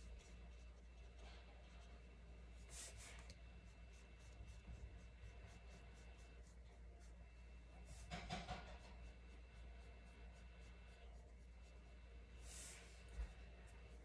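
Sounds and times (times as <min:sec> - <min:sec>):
low steady hum: 0:00.0 - 0:14.0
paintbrush strokes on paper: 0:00.0 - 0:14.0.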